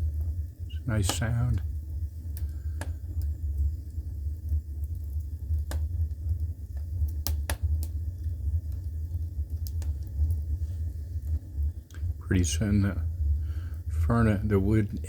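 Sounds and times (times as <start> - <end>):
burning wood crackling: 0.0 - 15.0
low rumble of fire draft: 0.0 - 15.0.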